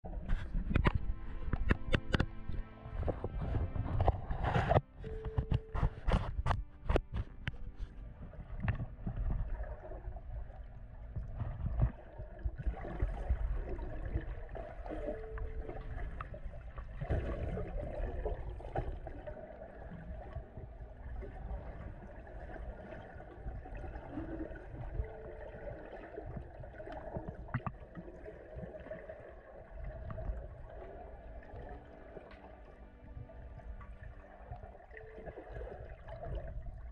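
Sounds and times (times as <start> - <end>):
underwater gurgling and rumbling: 0.0 - 36.9.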